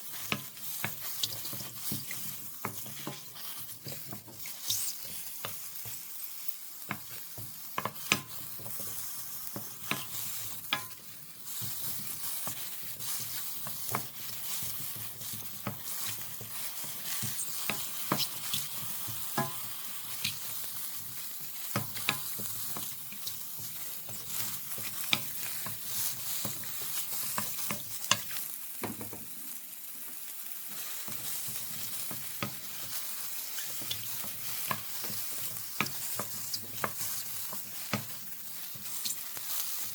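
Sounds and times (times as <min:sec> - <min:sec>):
mushrooms sizzling in a pan: 0:00.0 - 0:39.9.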